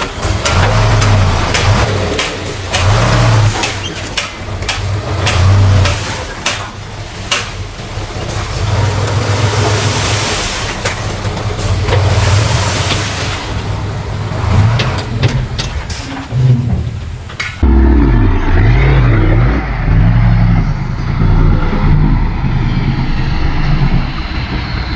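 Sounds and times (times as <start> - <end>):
heavy machinery diesel rumble: 0.0 - 24.9.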